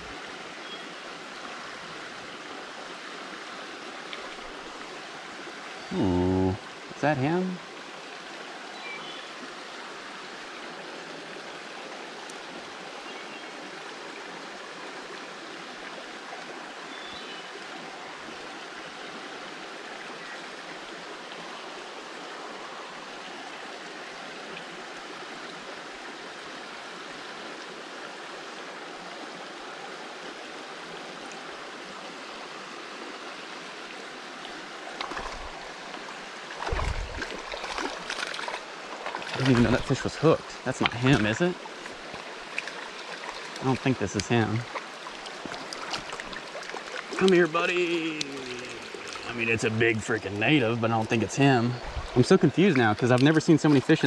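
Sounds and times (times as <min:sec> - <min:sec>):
creek rushing over rocks: 0:00.0 - 0:54.0.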